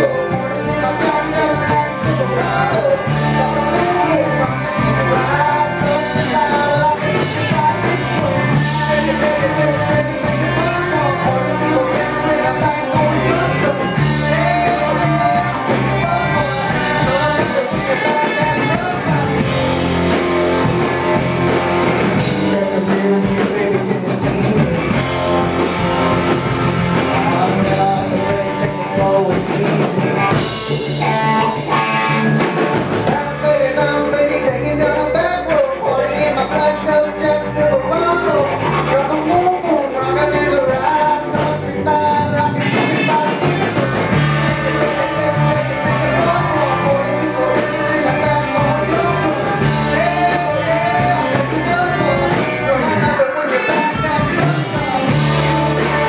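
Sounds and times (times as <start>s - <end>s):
lead vocal singing: 0.0s - 56.0s
live rock band: 0.0s - 56.0s.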